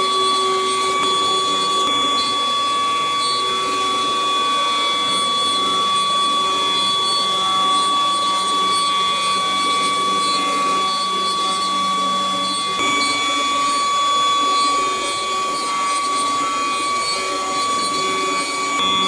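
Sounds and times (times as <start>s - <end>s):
router spindle whine: 0.0s - 19.0s
motors shifting pitch: 0.7s - 19.0s.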